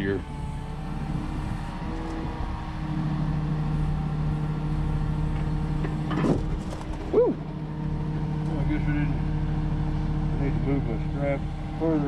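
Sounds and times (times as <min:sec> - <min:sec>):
crane motor running: 0:00.0 - 0:12.0.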